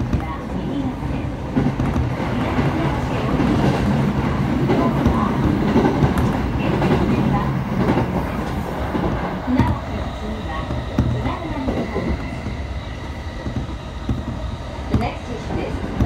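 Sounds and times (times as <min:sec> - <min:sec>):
passing train alongside: 0:00.0 - 0:16.0
train wheels rumbling on rails: 0:00.0 - 0:16.0.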